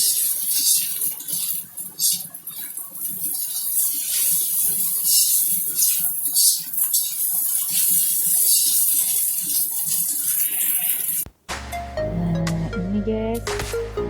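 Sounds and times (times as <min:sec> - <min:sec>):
fried rice sizzling in a pan: 0:00.0 - 0:11.3.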